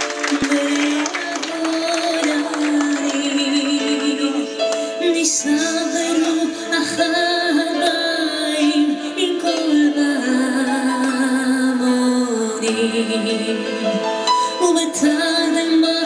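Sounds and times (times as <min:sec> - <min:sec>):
woman singing with vibrato: 0:00.2 - 0:16.0.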